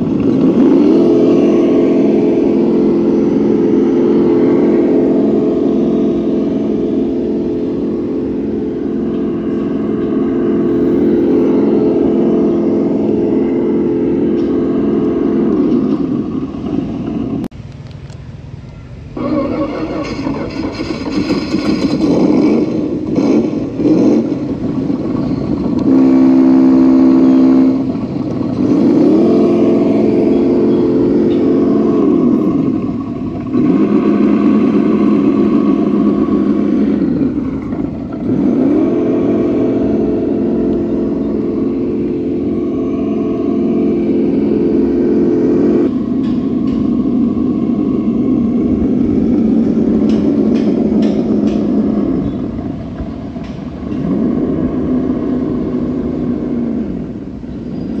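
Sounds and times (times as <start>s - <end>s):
synthetic boat engine sound: 0.0s - 58.0s.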